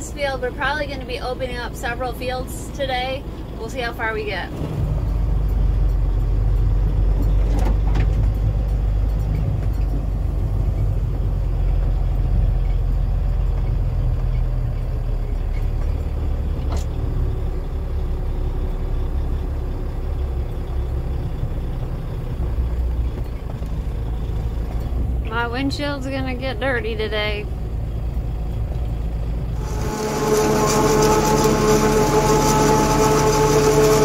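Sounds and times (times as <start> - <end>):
truck engine rumbling: 0.0 - 34.0.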